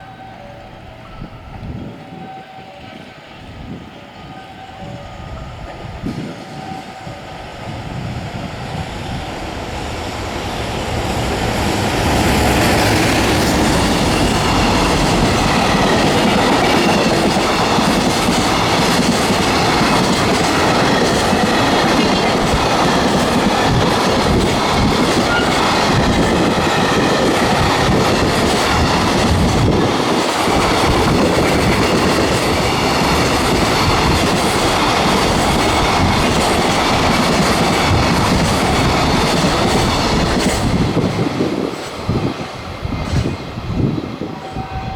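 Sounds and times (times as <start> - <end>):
freight train passing: 0.0 - 44.9.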